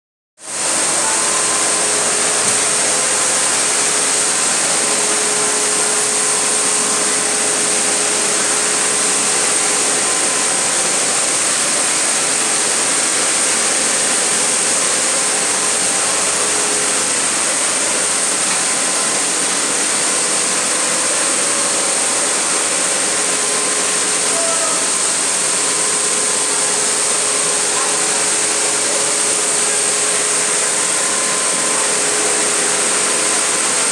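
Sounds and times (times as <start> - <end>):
high hiss: 0.5 - 33.9
machinery whirring: 0.5 - 33.9.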